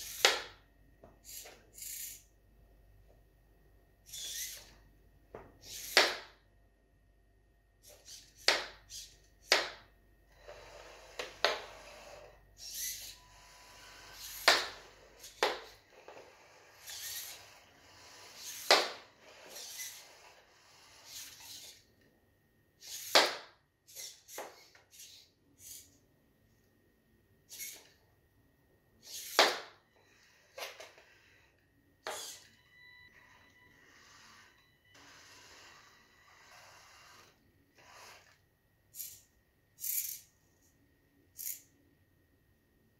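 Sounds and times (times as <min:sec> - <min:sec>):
faint high whine: 0:00.0 - 0:42.9.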